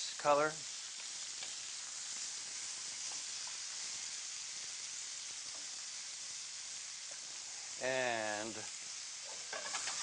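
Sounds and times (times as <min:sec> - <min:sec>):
seafood sizzling in a pan: 0:00.0 - 0:10.0.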